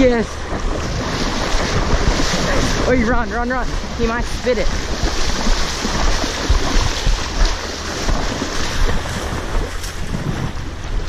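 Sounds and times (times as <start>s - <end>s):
small choppy waves: 0.0s - 11.0s
wind buffeting microphone: 0.0s - 11.0s.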